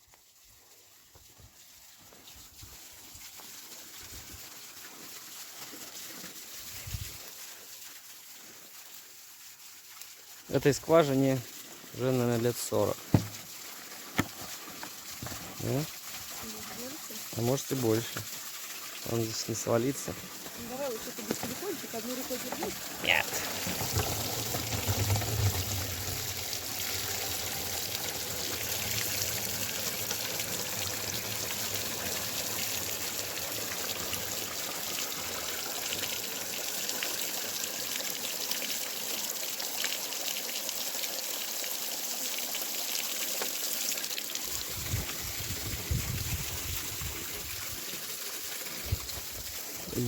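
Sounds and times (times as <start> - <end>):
water pouring and splashing: 0.0 - 50.0
water filling a bottle: 2.2 - 50.0.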